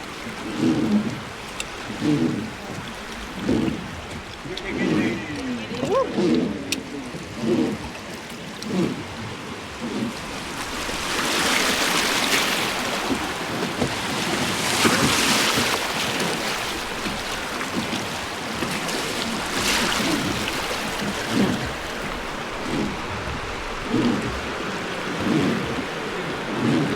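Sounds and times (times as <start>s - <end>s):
river water rushing and splashing: 0.0s - 26.9s
wind buffeting microphone: 0.0s - 26.9s.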